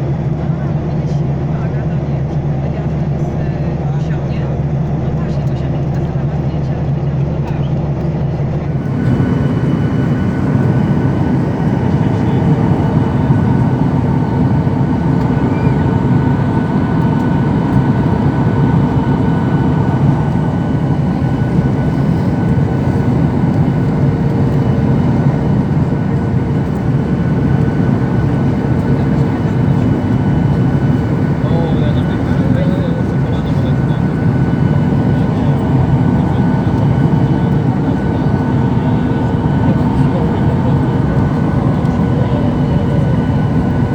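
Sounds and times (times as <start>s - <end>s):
jet engines droning: 0.0s - 43.9s
airplane cabin air rush: 8.7s - 43.9s
faint steady whine: 8.7s - 43.9s.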